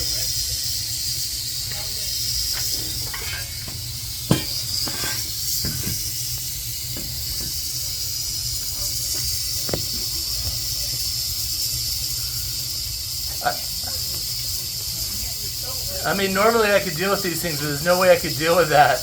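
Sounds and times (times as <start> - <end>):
rattlesnake rattling: 0.0 - 19.0.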